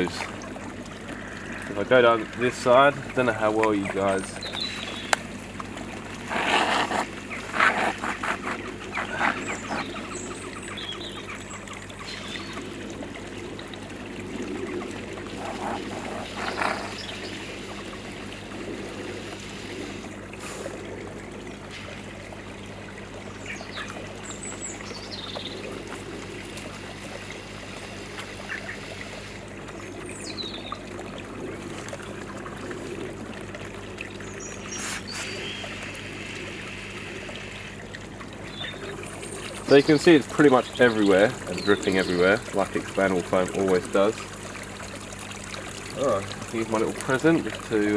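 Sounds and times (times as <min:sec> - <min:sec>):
trickle of pond water: 0:00.0 - 0:47.9.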